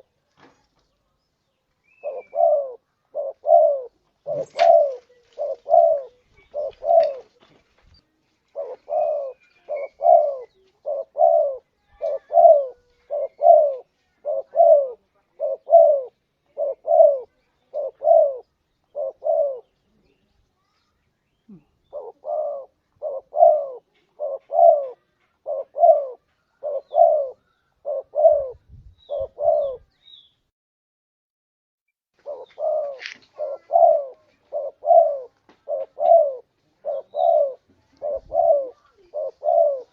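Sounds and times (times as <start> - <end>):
dove cooing: 1.9 - 7.5, 8.5 - 20.0, 21.5 - 29.9, 32.2 - 39.9.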